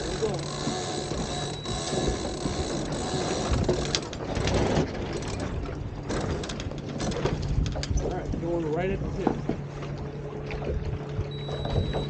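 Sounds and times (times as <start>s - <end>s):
rigging clicks and rattles: 0.0s - 9.7s
water rushing past boat: 0.0s - 12.0s
wind: 0.0s - 12.0s.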